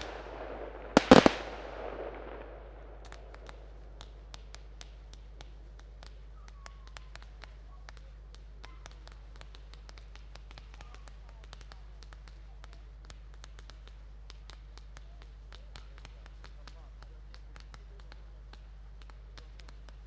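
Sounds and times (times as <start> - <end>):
fireworks crackling pops: 0.0 - 20.0
steady low hum: 0.0 - 20.0.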